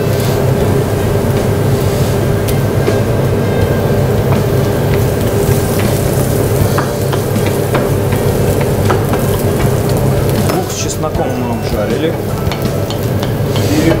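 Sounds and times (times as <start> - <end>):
onion and garlic sizzling in oil: 0.0 - 14.0
steady low hum: 0.0 - 14.0.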